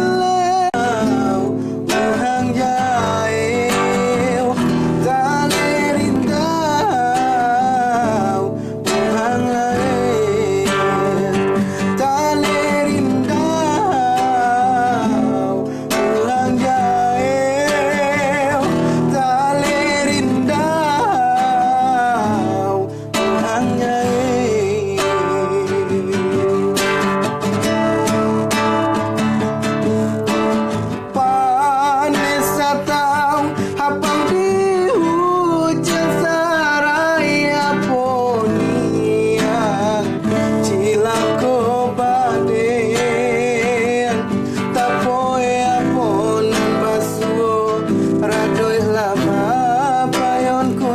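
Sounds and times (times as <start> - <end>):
man singing with vibrato: 0.0 - 50.9
strummed acoustic guitar: 0.0 - 50.9.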